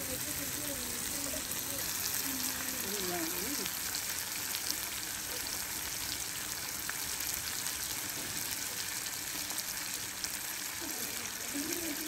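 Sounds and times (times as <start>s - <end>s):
curry sizzling in pot: 0.0s - 12.0s.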